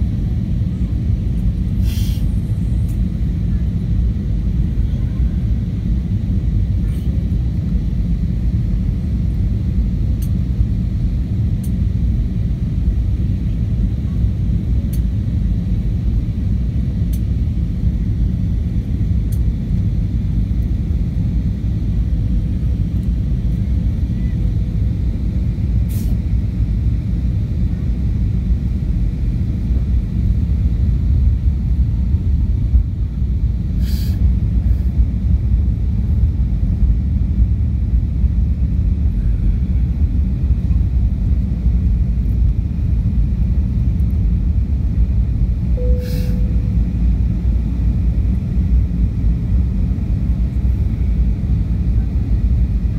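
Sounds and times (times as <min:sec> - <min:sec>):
airplane cabin rumble: 0:00.0 - 0:52.9.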